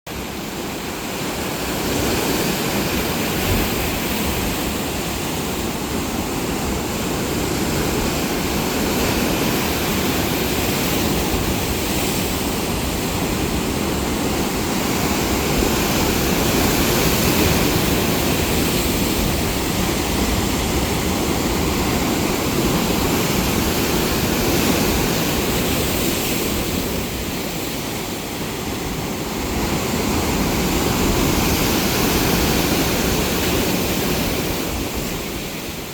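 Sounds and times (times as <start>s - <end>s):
sea waves breaking on shore: 0.1s - 35.9s.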